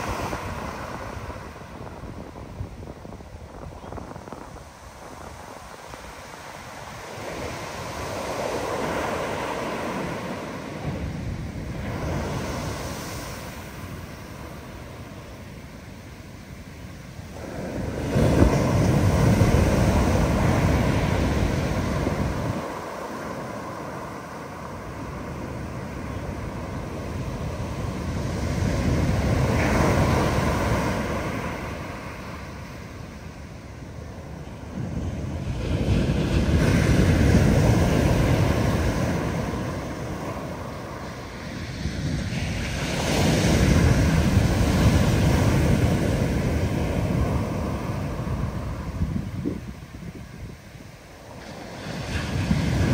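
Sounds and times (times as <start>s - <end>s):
ocean surf crashing: 0.0s - 52.9s.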